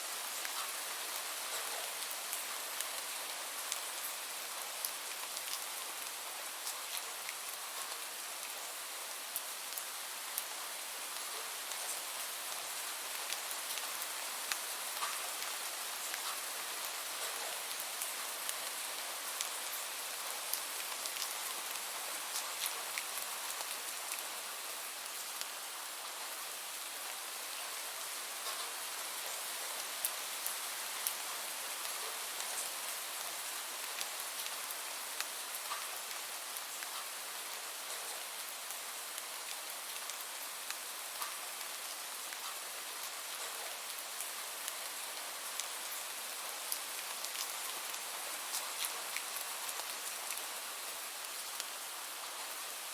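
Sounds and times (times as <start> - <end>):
rain falling: 0.0 - 52.9.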